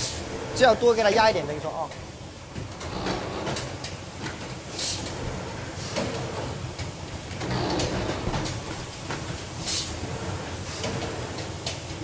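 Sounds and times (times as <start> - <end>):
factory machine rumbling: 0.0 - 12.0.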